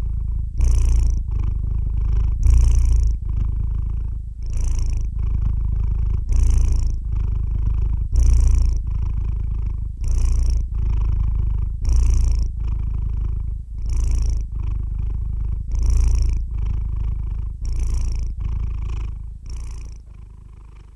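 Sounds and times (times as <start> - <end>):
cat purring: 0.0 - 20.9.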